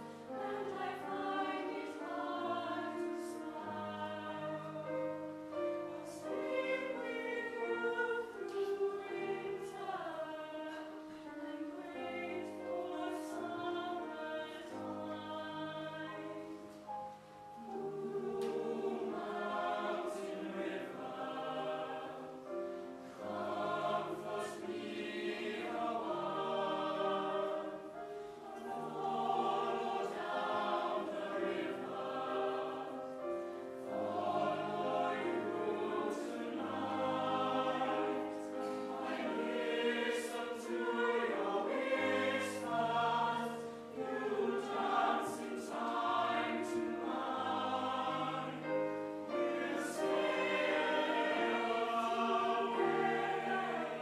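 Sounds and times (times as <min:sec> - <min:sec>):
mixed choir singing in parts: 0:00.0 - 0:54.0.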